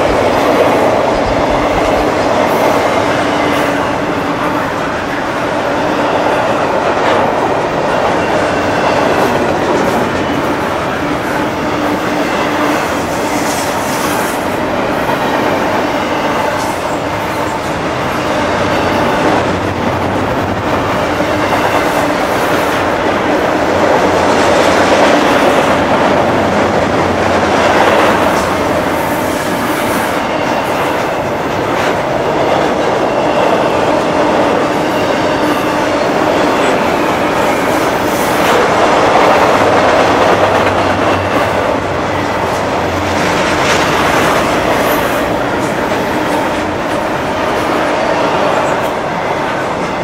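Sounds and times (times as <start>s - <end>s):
steel train wheels rumbling on rails: 0.0s - 50.0s.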